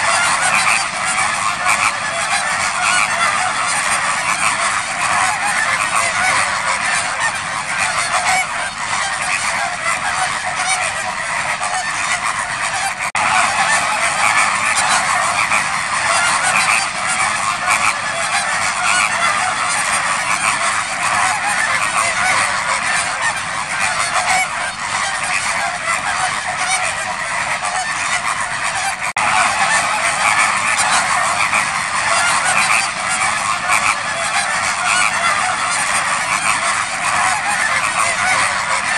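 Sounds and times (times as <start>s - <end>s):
flamingos honking: 0.0s - 38.9s.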